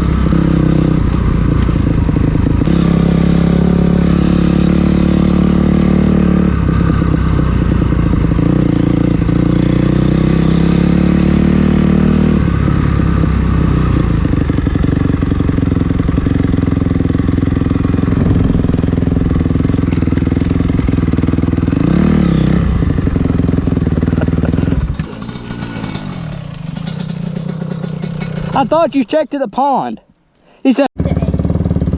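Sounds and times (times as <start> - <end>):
dirt bike engine revving: 0.0 - 29.1, 31.0 - 31.9.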